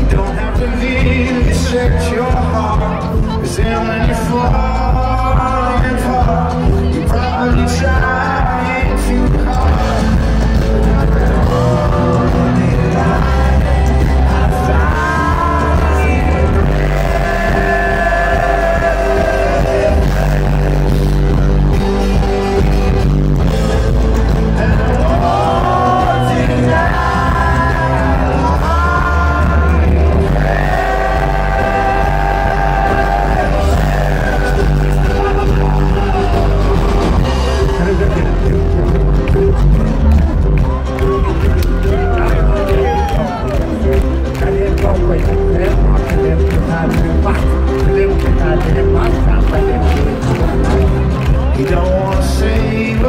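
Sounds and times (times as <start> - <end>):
live band playing: 0.0 - 53.0.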